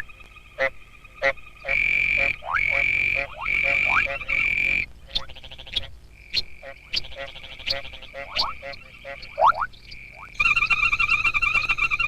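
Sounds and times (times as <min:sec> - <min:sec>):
frogs buzzing trills: 0:00.0 - 0:12.0
frogs clicking calls: 0:00.0 - 0:12.0
frogs upward-sliding croaks: 0:00.0 - 0:12.0.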